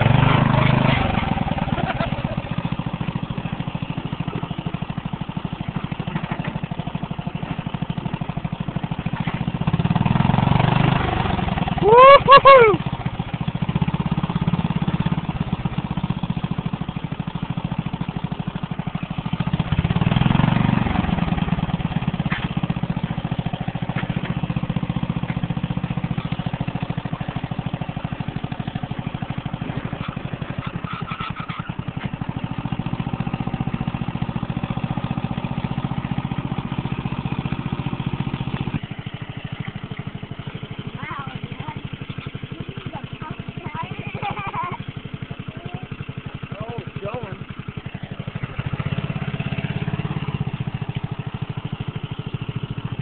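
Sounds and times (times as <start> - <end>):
riding lawn mower engine: 0.0 - 53.0.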